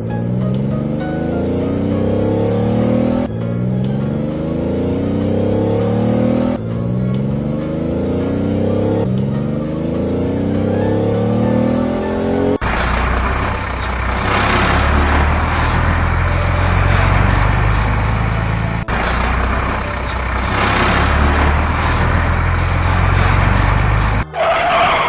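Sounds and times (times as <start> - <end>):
heavy truck engine humming: 0.0 - 25.0.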